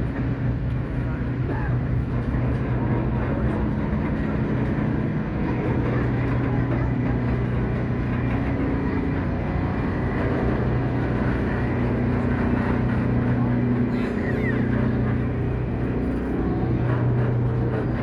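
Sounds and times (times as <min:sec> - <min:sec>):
diesel locomotive running: 0:00.0 - 0:18.0.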